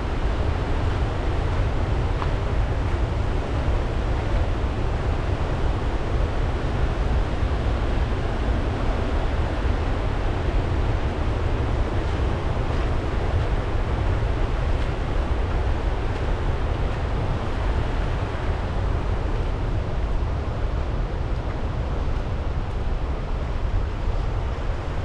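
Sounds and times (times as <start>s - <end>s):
waterfall rushing with low rumble: 0.0s - 25.0s.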